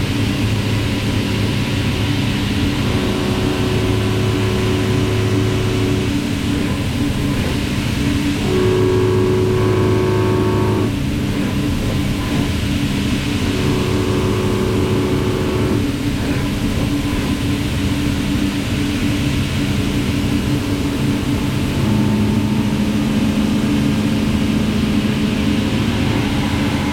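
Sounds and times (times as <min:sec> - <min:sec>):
deep machine tone: 0:00.0 - 0:26.9
high-pitched machine whine: 0:00.0 - 0:26.9
machining centre hum: 0:00.0 - 0:26.9.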